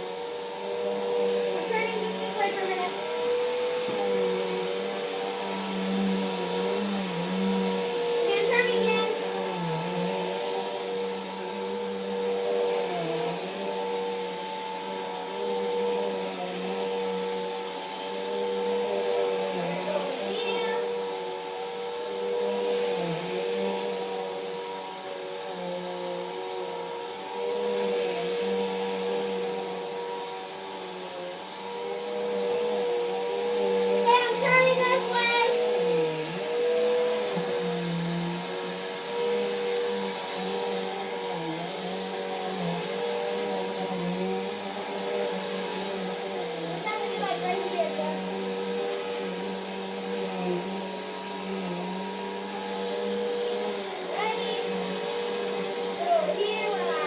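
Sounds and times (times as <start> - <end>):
vacuum cleaner motor hum: 0.0 - 57.0.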